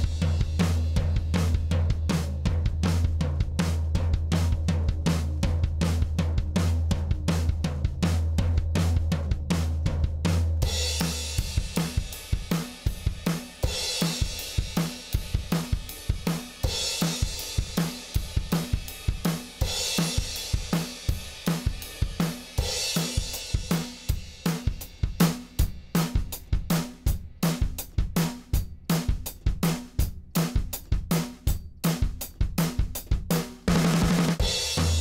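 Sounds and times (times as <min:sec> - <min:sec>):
drum kit groove: 0:00.0 - 0:35.0.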